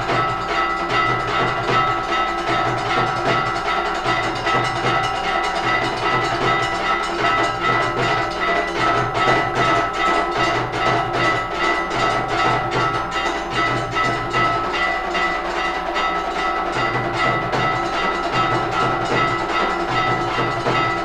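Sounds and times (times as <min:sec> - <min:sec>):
bells ringing: 0:00.0 - 0:21.0
low drum: 0:00.0 - 0:21.0
metallic percussion strokes: 0:00.0 - 0:21.0.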